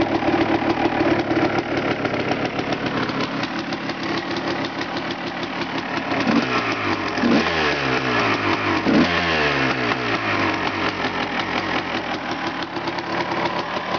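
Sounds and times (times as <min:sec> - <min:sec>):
motorcycle engine revving: 0:00.0 - 0:13.9.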